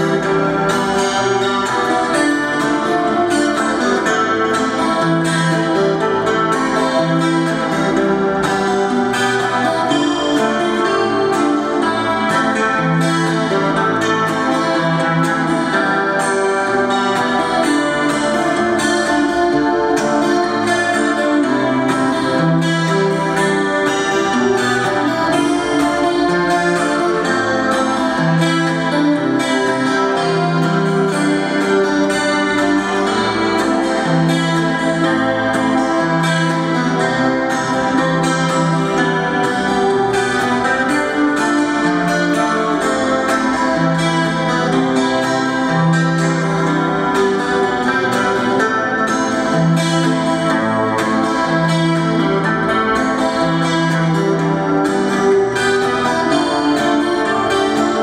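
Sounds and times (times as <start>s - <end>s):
amplified guitar melody: 0.0s - 58.0s.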